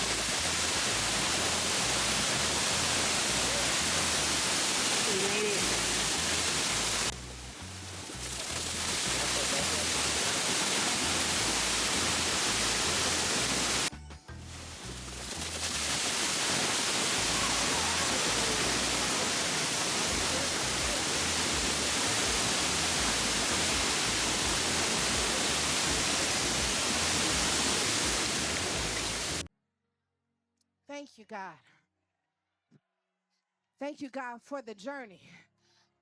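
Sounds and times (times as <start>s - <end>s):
waterfall rushing: 0.0s - 13.9s, 14.5s - 29.5s.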